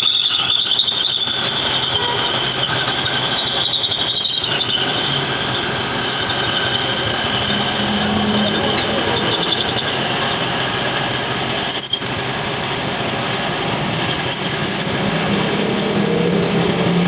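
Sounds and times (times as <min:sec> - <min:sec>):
metal lathe grinding with squealing whine: 0:00.0 - 0:17.0.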